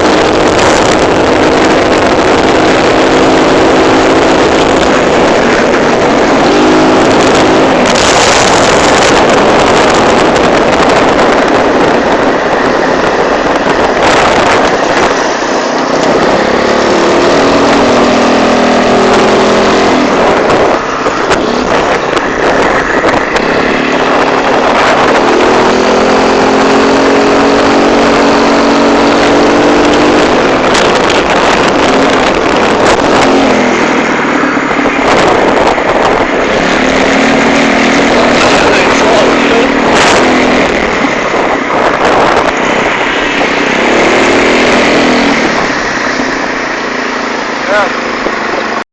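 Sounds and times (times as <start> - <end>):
scooter engine revving: 0.0 - 48.8.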